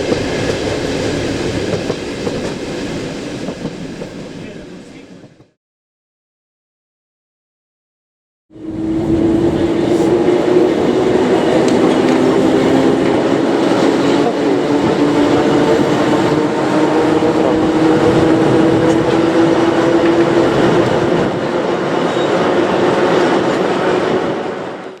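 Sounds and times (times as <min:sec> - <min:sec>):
train wheels rumbling on rails: 0:00.0 - 0:05.6, 0:08.6 - 0:25.0.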